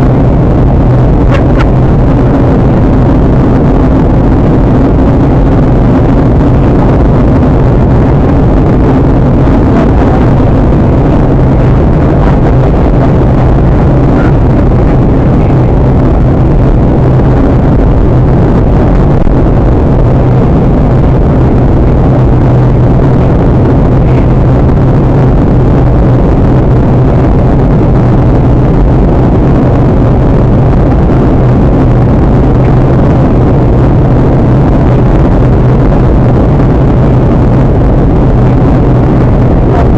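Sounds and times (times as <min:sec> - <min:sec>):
airplane cabin engine noise: 0:00.0 - 0:39.9.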